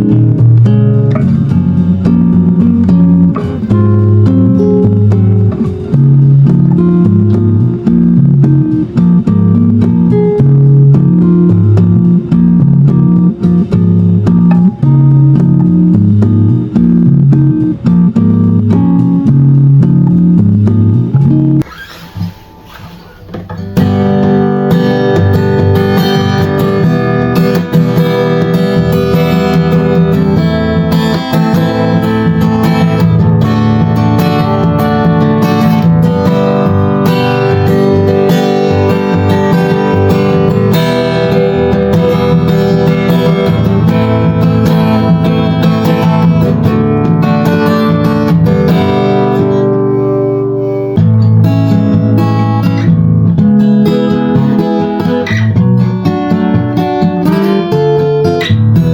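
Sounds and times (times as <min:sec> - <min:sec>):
acoustic guitar strumming chords: 0:00.0 - 0:58.9.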